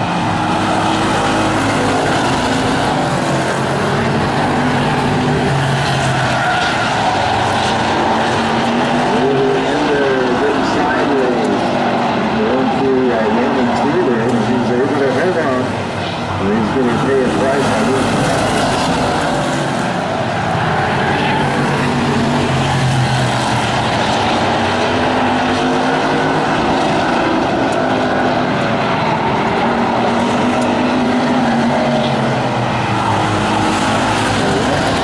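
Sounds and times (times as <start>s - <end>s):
race car engines: 0.0s - 35.0s.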